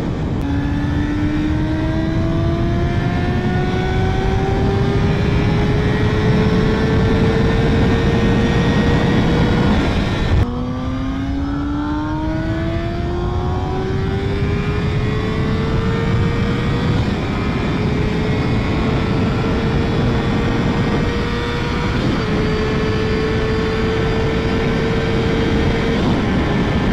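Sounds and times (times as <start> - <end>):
motorcycle engine at high revs: 0.0 - 26.9
wind noise: 0.0 - 26.9.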